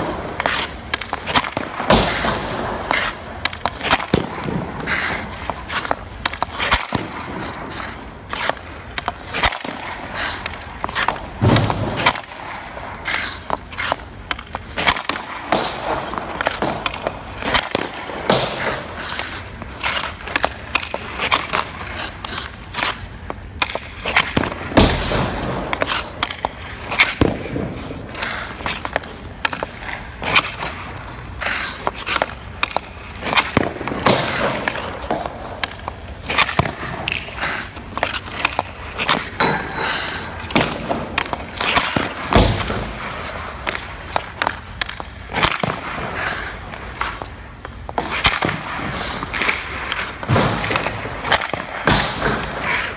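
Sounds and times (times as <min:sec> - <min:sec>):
hockey sticks striking pucks: 0:00.0 - 0:52.9
pucks hitting goalie pads: 0:00.0 - 0:52.9
skates scraping ice: 0:00.0 - 0:52.9.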